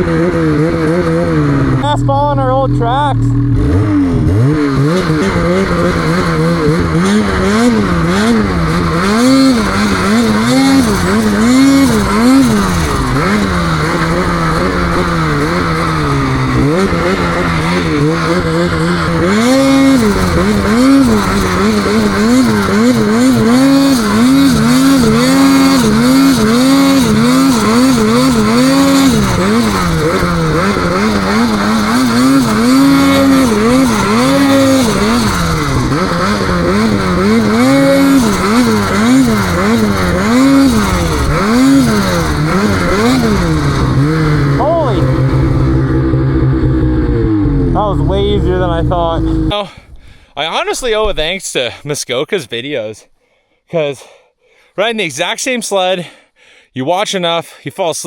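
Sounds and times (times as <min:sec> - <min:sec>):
snowmobile engine revving: 0:00.0 - 0:51.4.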